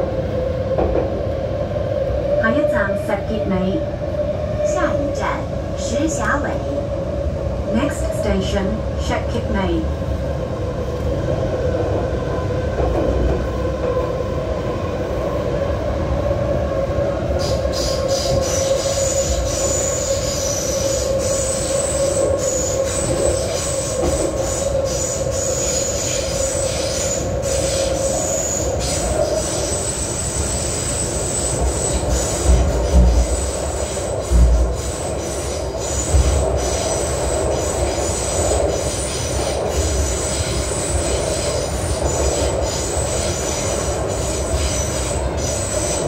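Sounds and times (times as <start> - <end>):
train rumbling through tunnel: 0.0 - 46.0.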